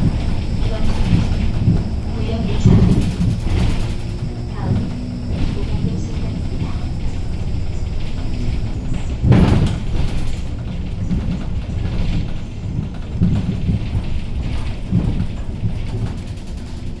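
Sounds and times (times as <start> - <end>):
bus engine rough rumble: 0.0 - 17.0.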